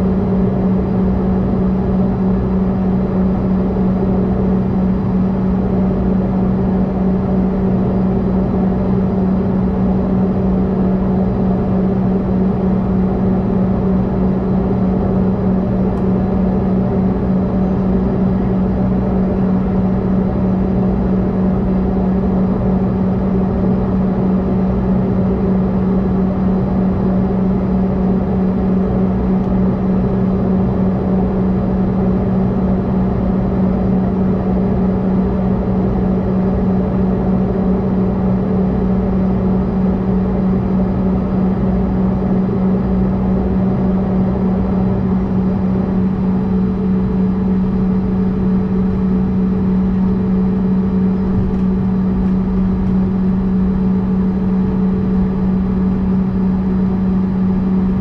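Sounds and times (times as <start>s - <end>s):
jet engines idling cabin drone: 0.0s - 58.0s.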